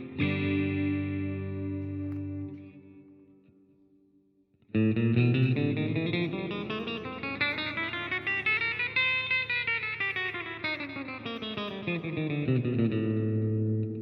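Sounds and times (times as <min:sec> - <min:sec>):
guitar single notes: 0:00.0 - 0:03.6, 0:04.7 - 0:14.0.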